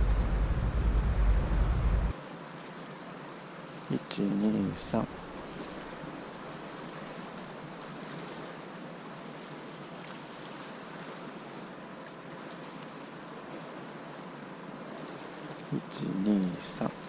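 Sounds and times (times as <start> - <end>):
sea washing against shore: 0.0 - 17.0.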